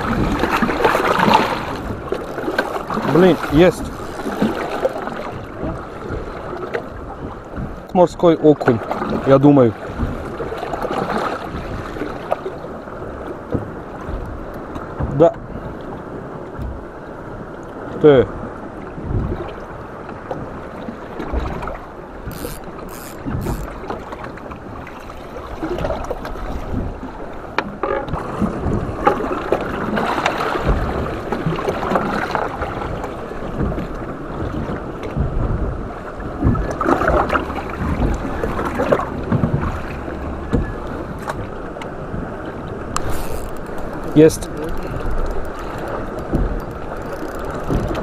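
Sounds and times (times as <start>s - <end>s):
water sloshing against boat: 0.0s - 48.0s
wind buffeting microphone: 0.0s - 48.0s.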